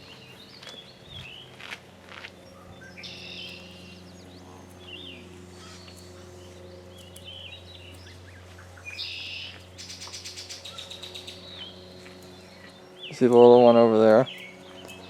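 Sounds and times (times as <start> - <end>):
buzzy trilled birdsong: 0.0 - 15.0
songbirds singing and chirping: 0.0 - 15.0
steady low hum: 0.0 - 15.0.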